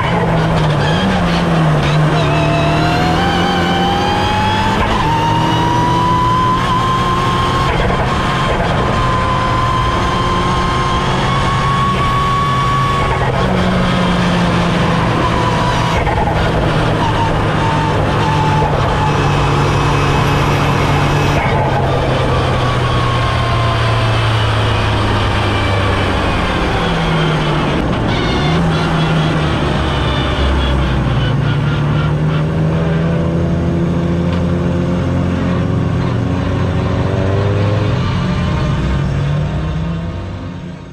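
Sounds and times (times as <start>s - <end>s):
car engine running: 0.0s - 37.6s.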